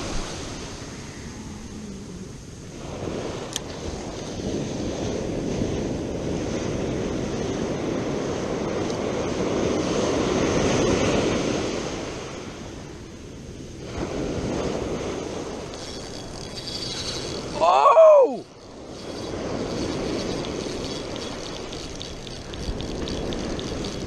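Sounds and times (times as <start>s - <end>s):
ocean surf on sandy beach: 0.0s - 24.0s.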